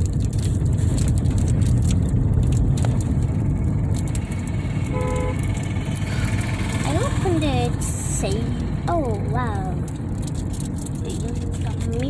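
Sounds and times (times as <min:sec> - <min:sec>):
plastic wrapper crackling: 0:00.0 - 0:07.0, 0:08.3 - 0:12.0
low rumble: 0:00.0 - 0:12.0.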